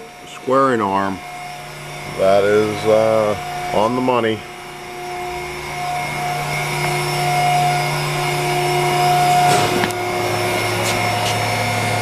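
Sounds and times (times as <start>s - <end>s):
motor humming and whining: 0.0s - 12.0s.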